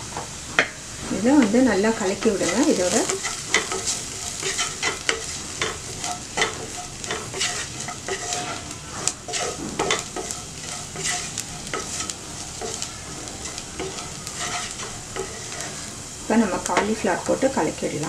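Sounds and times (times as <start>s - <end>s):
onions sizzling in oil: 0.0s - 18.0s
spatula scraping frying pan: 1.0s - 17.0s.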